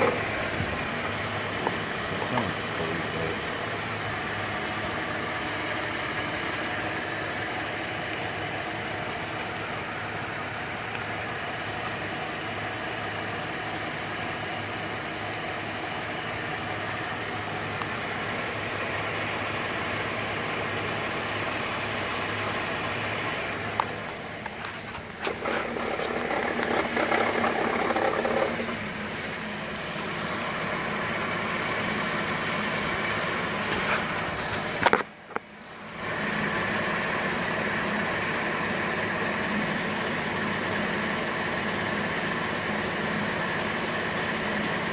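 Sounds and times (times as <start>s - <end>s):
car engine idling with rattle: 0.0s - 44.9s.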